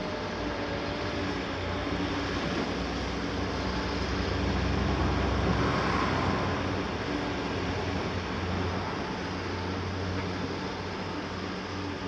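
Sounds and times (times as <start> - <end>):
excavator diesel engines rumbling: 0.0 - 12.0.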